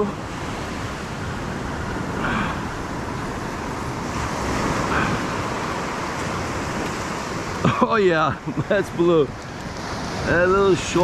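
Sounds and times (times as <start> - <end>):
ocean surf breaking on sand: 0.0 - 11.0.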